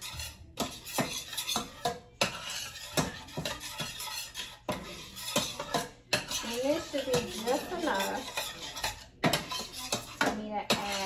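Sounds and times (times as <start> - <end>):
spoon stirring thick sauce: 0.0 - 11.0.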